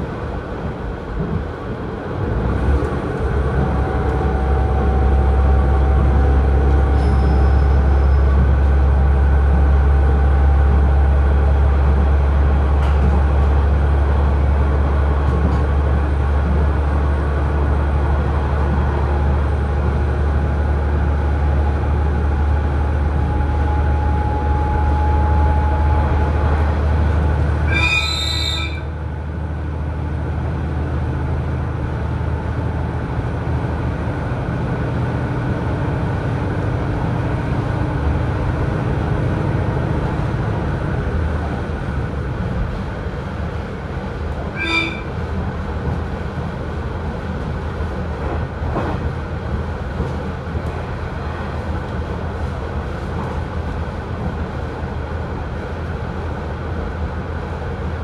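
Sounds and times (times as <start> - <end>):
diesel railcar engine drone: 0.0 - 58.0
rail noise: 0.0 - 58.0.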